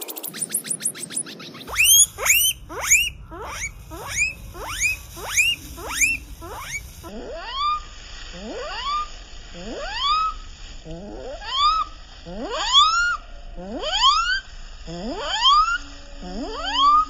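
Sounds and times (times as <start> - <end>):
guinea pig squealing: 0.0 - 10.4, 11.4 - 13.2, 13.8 - 17.0.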